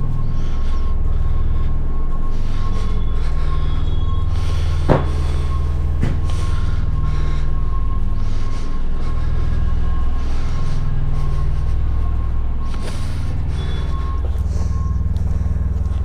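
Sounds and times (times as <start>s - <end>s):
faint high whine: 0.0s - 16.0s
low mechanical drone: 0.0s - 16.0s.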